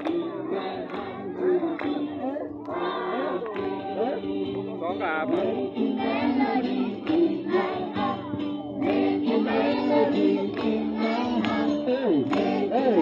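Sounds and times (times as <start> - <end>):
children singing together: 0.0 - 4.6, 5.4 - 13.0
music: 0.0 - 13.0.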